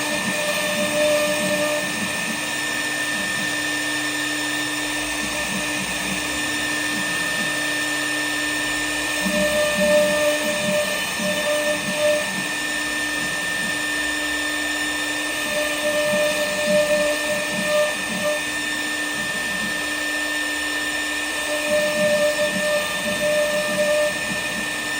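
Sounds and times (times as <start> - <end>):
cnc router spindle whine: 0.0 - 24.9.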